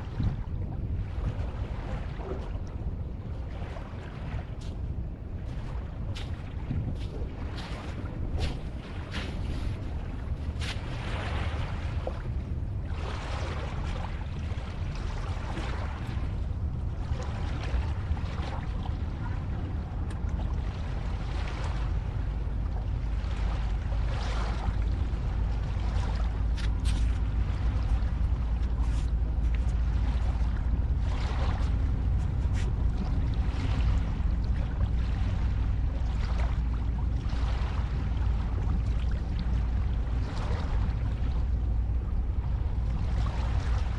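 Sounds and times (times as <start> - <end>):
ocean waves washing: 0.0 - 43.9.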